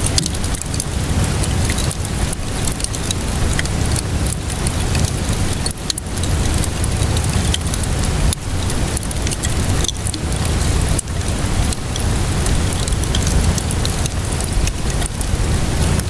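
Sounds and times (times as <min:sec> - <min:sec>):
steady rainfall: 0:00.0 - 0:16.0
wood fire crackling and popping: 0:00.0 - 0:16.0.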